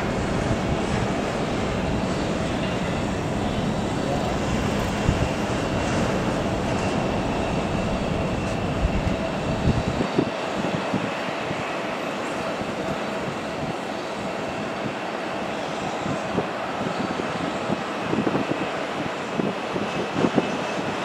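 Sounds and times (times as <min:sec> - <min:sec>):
jet engines rushing with whine: 0:00.0 - 0:21.0.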